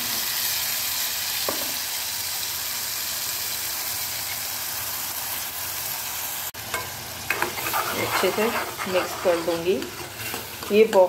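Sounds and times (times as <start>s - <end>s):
puree sizzling in hot oil: 0.0s - 11.0s.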